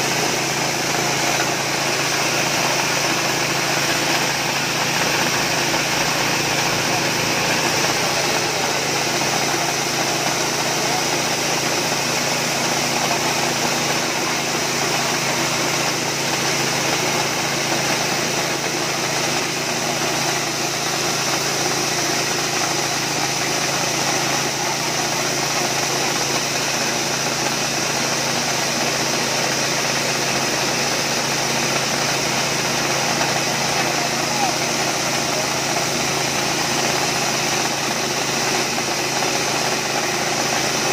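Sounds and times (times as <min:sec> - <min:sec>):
small petrol engine running: 0:00.0 - 0:40.9.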